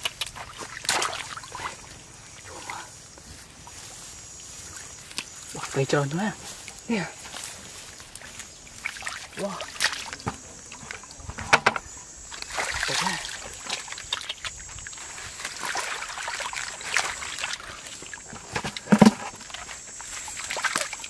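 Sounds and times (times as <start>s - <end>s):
water splashing: 0.0s - 3.0s, 3.6s - 6.4s, 7.6s - 11.2s, 12.2s - 21.0s.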